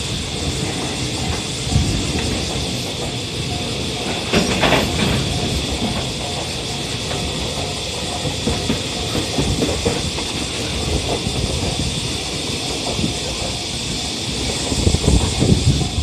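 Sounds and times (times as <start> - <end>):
crossing warning bell dinging: 0.0 - 16.0
train wheels rumbling on rail: 0.0 - 16.0.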